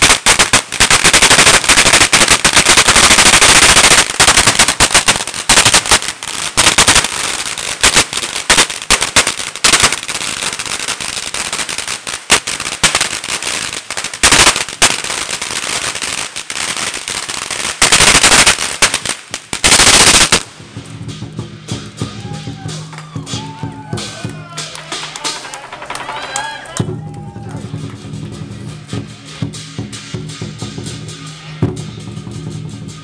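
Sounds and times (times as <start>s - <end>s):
firecrackers crackling: 0.0s - 33.0s.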